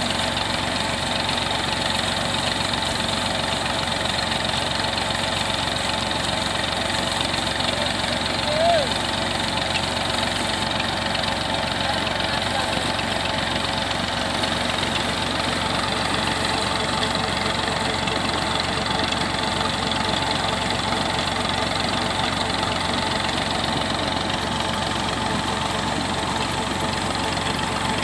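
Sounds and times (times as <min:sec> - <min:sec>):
tractor engine running: 0:00.0 - 0:28.0
water gushing from pipe: 0:00.0 - 0:28.0.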